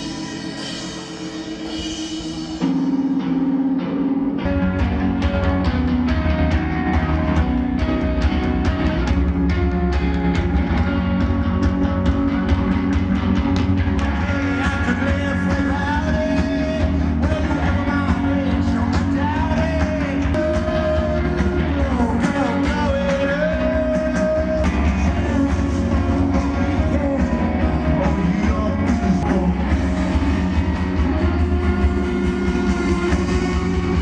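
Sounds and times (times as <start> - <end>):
live rock band with singing: 0.0 - 34.0
steady drum beat with heavy bass: 0.0 - 34.0.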